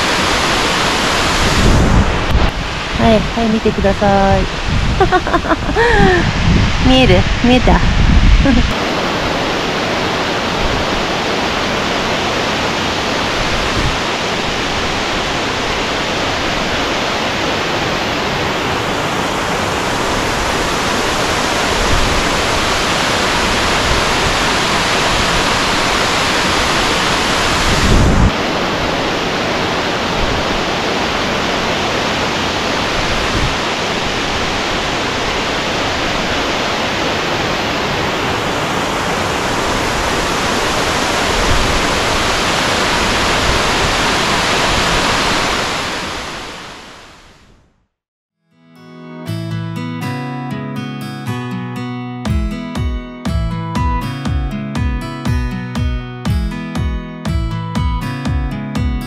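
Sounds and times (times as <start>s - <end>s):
waterfall and river rushing: 0.0s - 47.6s.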